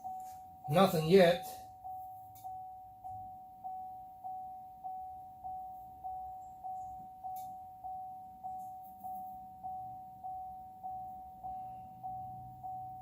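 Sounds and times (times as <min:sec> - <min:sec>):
electronic warning chime dinging: 0:00.0 - 0:13.0.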